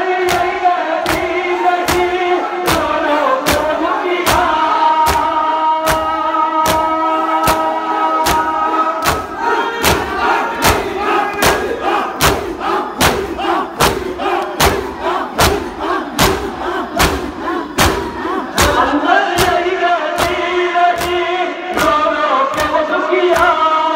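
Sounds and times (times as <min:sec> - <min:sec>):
crowd chanting: 0:00.0 - 0:23.9
hands slapping chests: 0:00.2 - 0:23.6.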